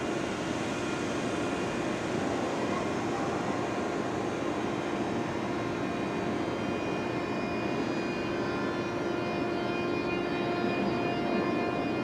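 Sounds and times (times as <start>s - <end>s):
electric train rumbling and whining: 0.0s - 12.0s.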